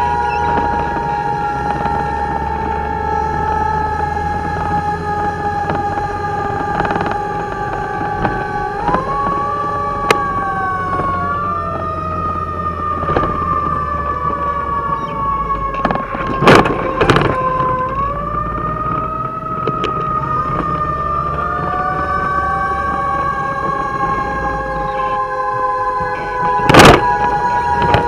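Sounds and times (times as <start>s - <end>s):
fire truck siren wailing: 0.0s - 28.0s
truck engine rumble: 0.0s - 28.0s.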